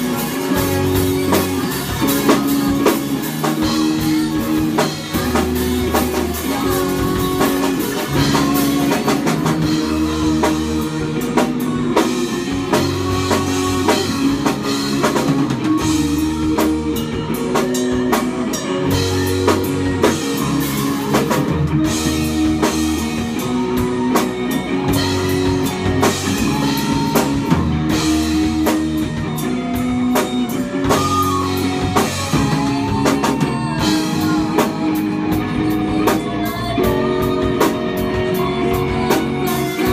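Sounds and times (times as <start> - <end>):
distorted electric guitar chords: 0.0 - 39.9
drum kit playing: 0.0 - 39.9.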